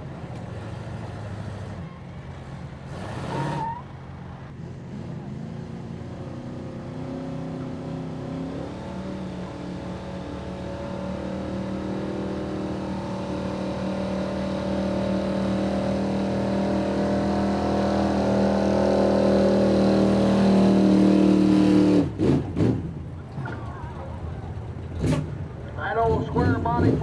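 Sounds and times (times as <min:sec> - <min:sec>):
pickup truck engine at high revs: 0:00.0 - 0:27.0.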